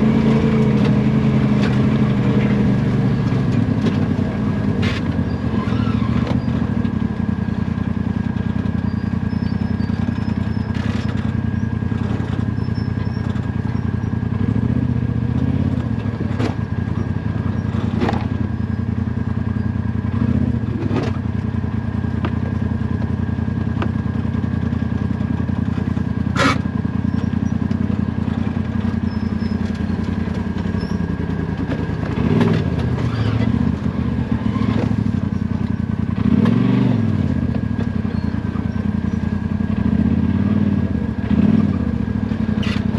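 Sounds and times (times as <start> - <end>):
vehicle clatter over rough ground: 0.0 - 42.9
vehicle engine running: 0.0 - 42.9.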